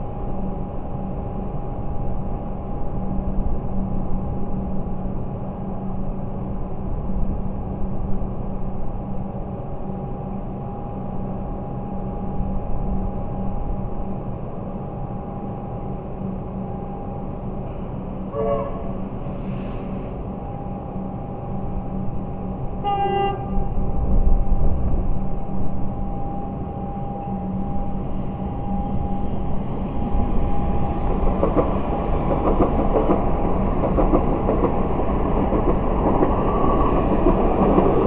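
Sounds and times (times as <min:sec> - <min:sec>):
electric train hum: 0:00.0 - 0:38.0.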